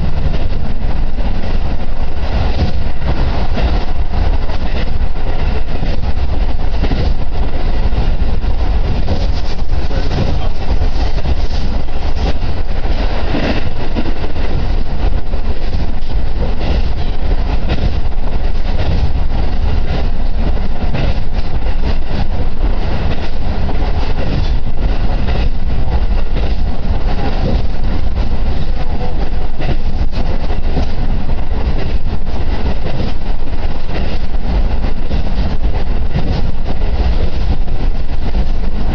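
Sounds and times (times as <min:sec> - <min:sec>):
railcar engine and wheels rumbling: 0:00.0 - 0:38.9.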